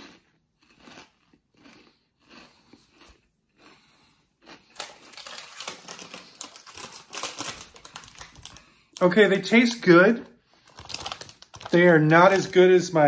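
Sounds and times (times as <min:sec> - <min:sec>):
pork rinds crunching when chewed: 0:00.0 - 0:09.1, 0:10.5 - 0:12.5.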